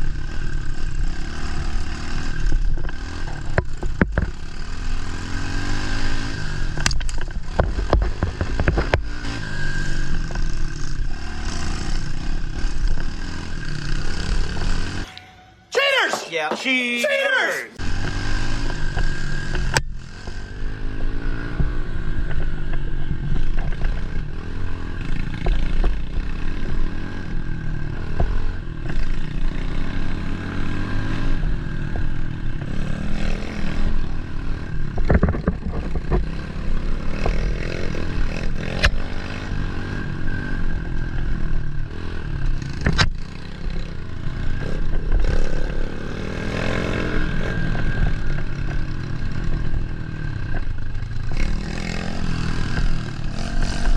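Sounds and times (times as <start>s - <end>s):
dirt bike engine revving: 0.0s - 15.1s, 17.8s - 53.9s.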